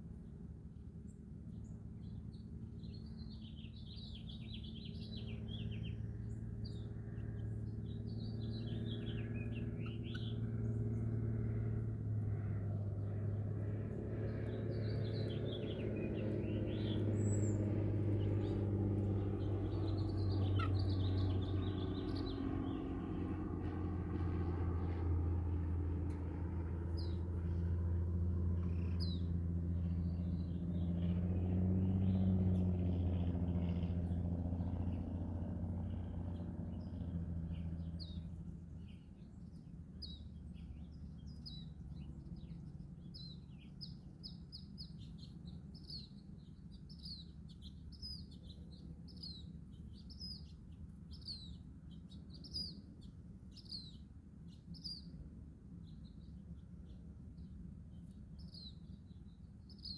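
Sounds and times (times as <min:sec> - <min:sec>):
low steady hum: 0:00.0 - 0:59.9
birds chirping: 0:01.1 - 0:55.2.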